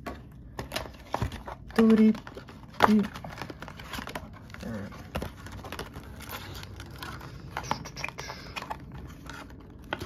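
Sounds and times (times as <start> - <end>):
packaging rustling and crinkling: 0.5 - 10.0.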